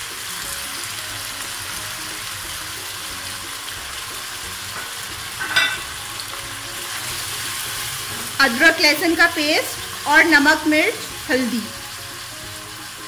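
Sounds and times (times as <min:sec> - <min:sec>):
meat and onions sizzling in oil: 0:00.0 - 0:13.0.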